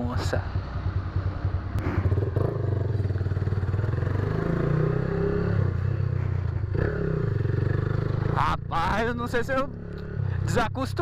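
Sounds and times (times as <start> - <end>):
loud motorcycle engine running: 0.0 - 10.6.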